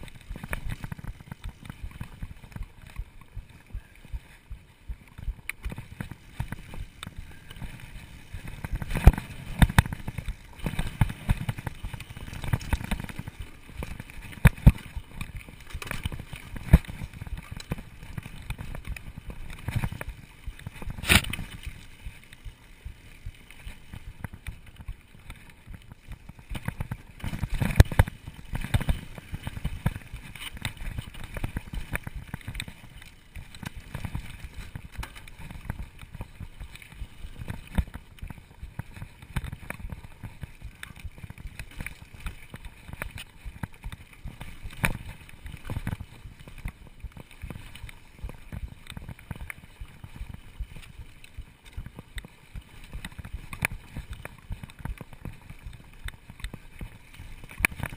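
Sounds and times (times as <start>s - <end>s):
bike knocks and rattles: 0.0s - 21.8s, 23.8s - 50.0s
bike rumbling over dirt trail: 0.0s - 57.9s.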